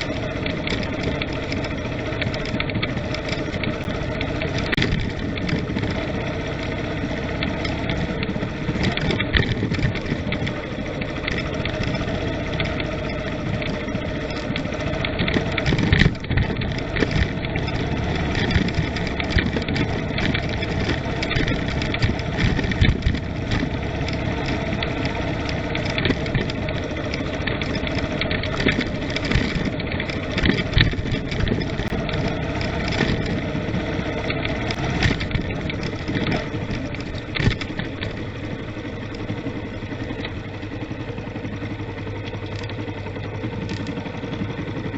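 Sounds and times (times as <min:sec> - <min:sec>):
knocks and jolts over road: 0:00.0 - 0:44.9
vehicle engine running: 0:00.0 - 0:44.9.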